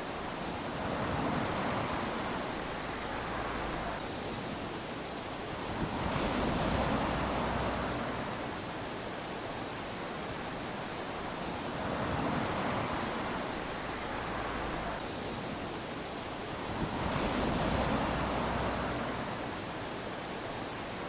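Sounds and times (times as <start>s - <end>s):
small waves lapping on sand: 0.0s - 21.0s.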